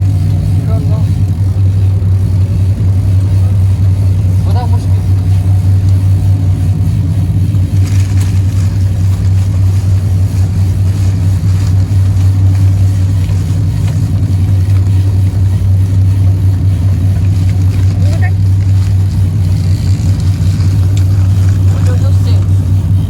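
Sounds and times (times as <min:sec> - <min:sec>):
motorboat engine humming: 0:00.0 - 0:23.0.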